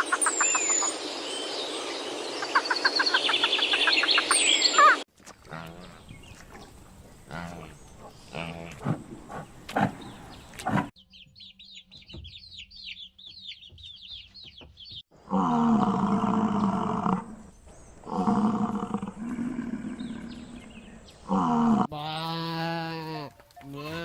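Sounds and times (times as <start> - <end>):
small birds chirping: 0.0 - 15.1, 16.5 - 21.4.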